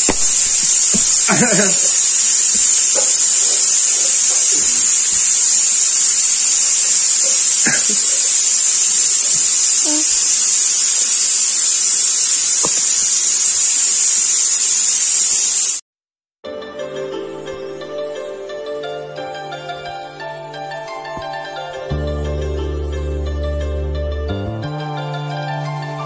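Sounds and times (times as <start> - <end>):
loud high-pitched hiss: 0.0 - 15.8, 19.3 - 23.2, 24.6 - 26.0.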